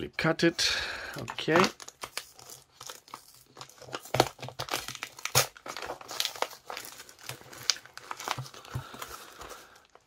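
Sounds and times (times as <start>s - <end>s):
plastic wrapping crinkling: 1.2s - 10.0s.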